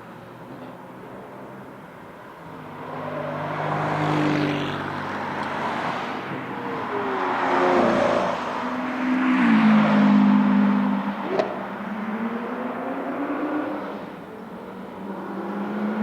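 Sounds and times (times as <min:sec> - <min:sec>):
sports car engine at speed: 0:00.0 - 0:16.0.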